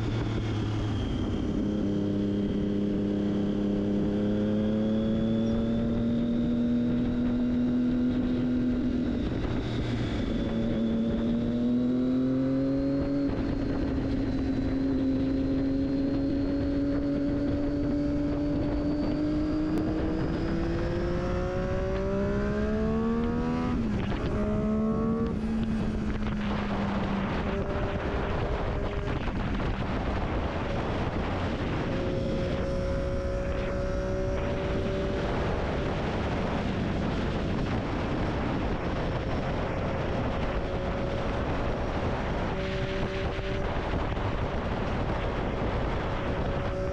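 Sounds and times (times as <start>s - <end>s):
motorcycle engine accelerating: 0.0s - 46.9s
wind rush: 0.0s - 46.9s.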